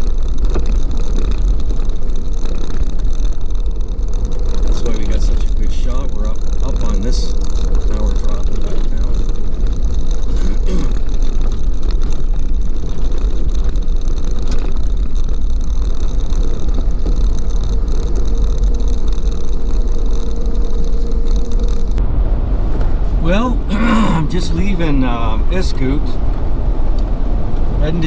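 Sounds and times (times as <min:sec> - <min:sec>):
engine and tyres rumbling on gravel: 0:00.0 - 0:28.0
faint steady whine: 0:00.0 - 0:28.0.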